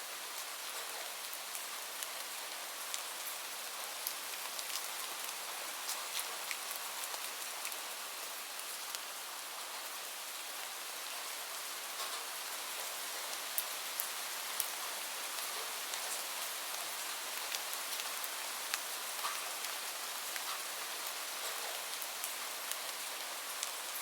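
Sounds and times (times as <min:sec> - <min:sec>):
steady rain hiss: 0:00.0 - 0:24.0
raindrops ticking on a surface: 0:00.2 - 0:24.0.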